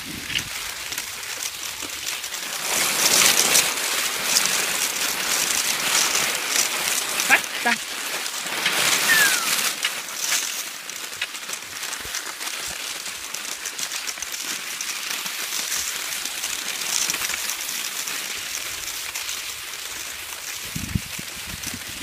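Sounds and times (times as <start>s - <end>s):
skis sliding on snow: 0.0s - 22.0s.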